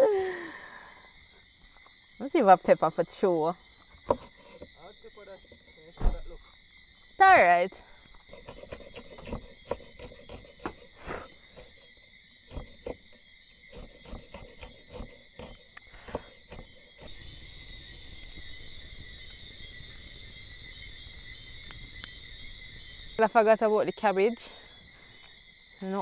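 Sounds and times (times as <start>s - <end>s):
insect chirring: 0.0s - 26.0s
steady outdoor hiss: 0.0s - 26.0s.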